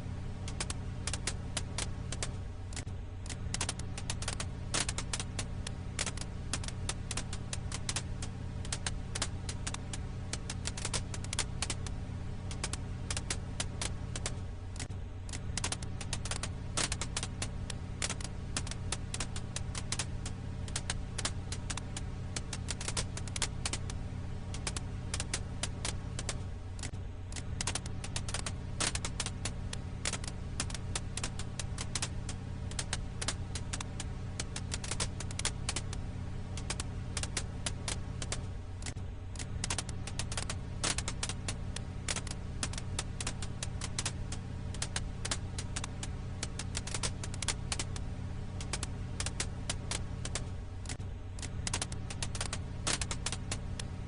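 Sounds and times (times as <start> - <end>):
campfire crackling: 0.0 - 54.0
steady low hum: 0.0 - 54.0.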